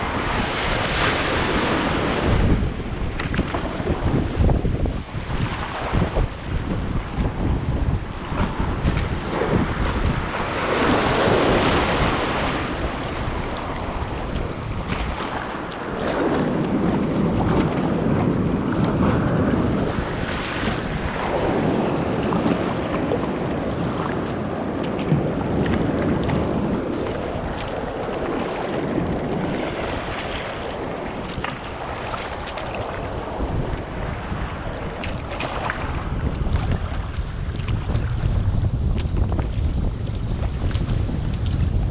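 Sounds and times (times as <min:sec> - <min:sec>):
water sloshing around a kayak: 0:00.0 - 0:41.9
wind buffeting microphone: 0:00.0 - 0:41.9.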